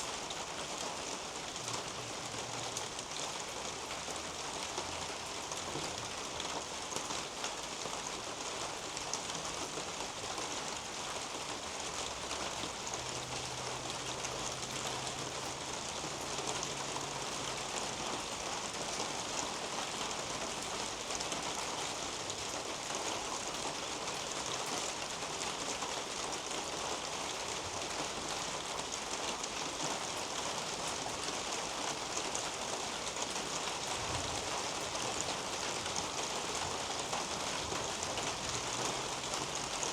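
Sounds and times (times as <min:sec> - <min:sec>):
rain on leaves and roof: 0:00.0 - 0:39.9
rain drips ticking: 0:00.1 - 0:39.9.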